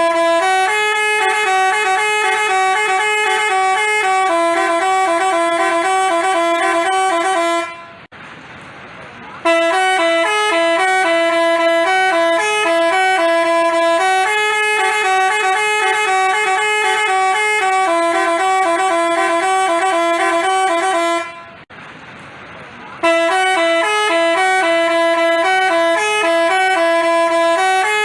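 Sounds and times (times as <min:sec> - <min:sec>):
multi-tone bus horn tune: 0:00.0 - 0:08.1, 0:09.4 - 0:21.7, 0:23.0 - 0:28.0.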